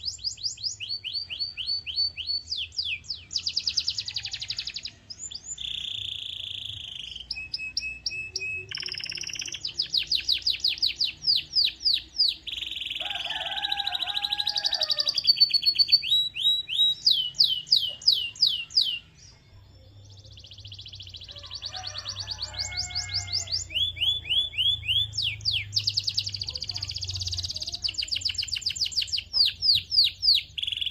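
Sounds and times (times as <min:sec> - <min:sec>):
canary singing: 0:00.0 - 0:30.9.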